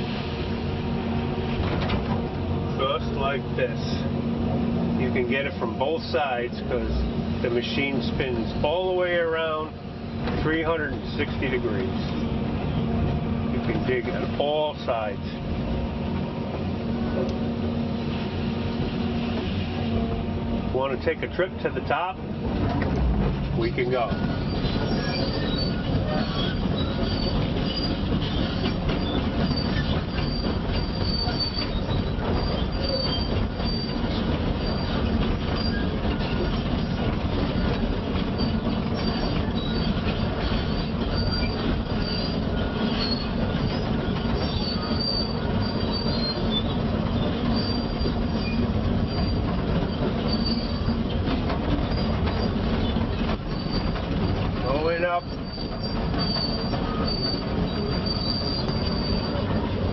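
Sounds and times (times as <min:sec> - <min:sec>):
excavator engine running: 0:00.0 - 0:59.9
steel tracks squeaking: 0:00.0 - 0:59.9.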